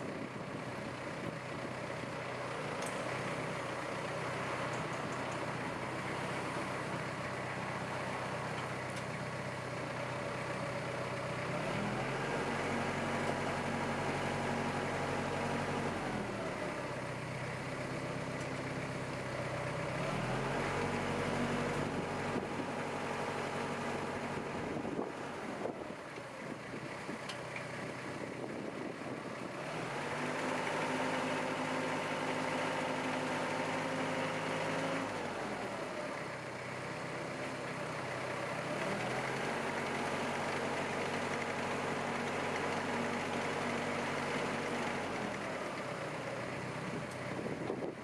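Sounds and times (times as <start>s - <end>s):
tractor diesel engine revving and idling: 0.0s - 48.0s.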